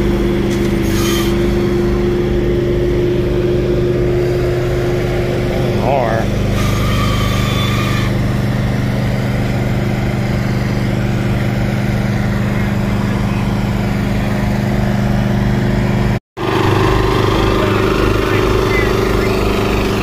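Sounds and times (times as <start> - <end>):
paver engine running: 0.0 - 20.0.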